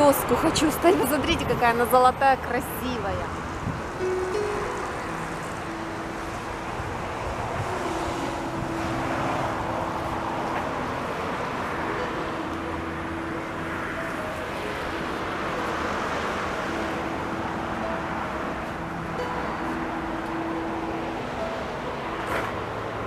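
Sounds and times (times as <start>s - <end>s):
rushing outdoor noise: 0.0s - 23.0s
soft background music: 0.0s - 23.0s.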